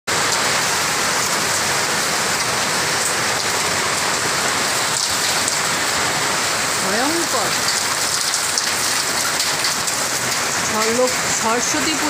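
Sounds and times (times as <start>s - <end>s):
heavy rain pouring: 0.1s - 12.0s.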